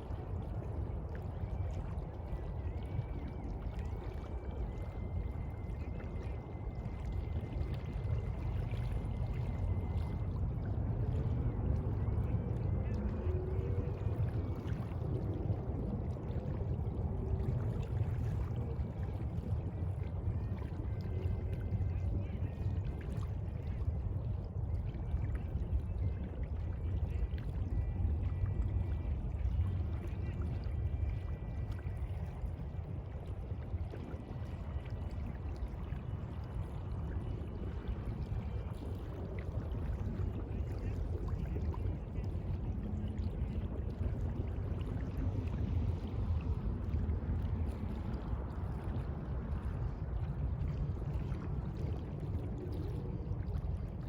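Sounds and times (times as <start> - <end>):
sea water washing and churning: 0.0 - 54.0.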